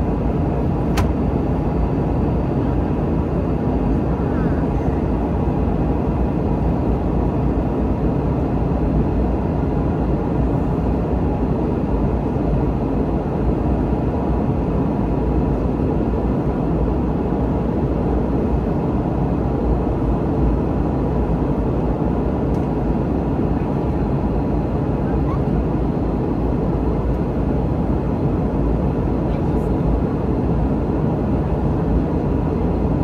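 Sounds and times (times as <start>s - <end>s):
airliner cabin roar: 0.0s - 33.0s.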